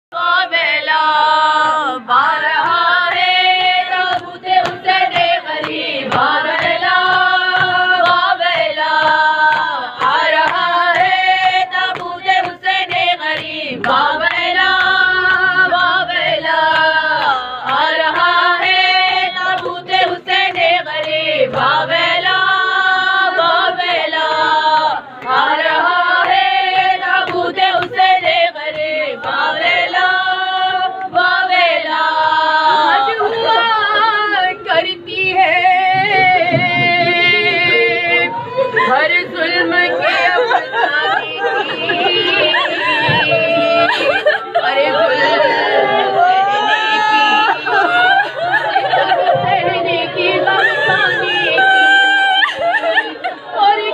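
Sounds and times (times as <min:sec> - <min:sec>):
voices chanting a lament: 0:00.1 - 0:53.9.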